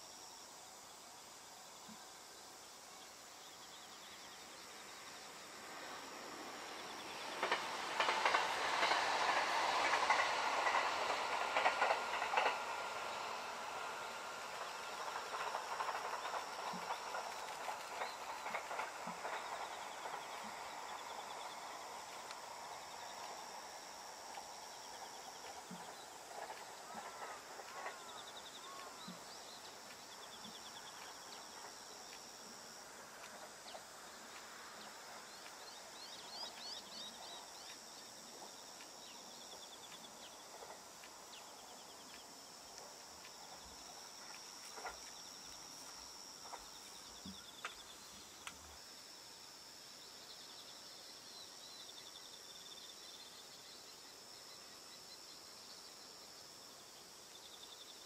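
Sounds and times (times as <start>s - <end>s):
insects chirping and trilling: 0.0s - 58.0s.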